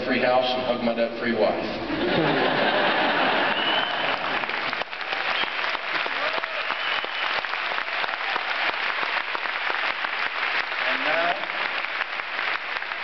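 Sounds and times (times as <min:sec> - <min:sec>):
audience applauding: 0:02.1 - 0:13.0.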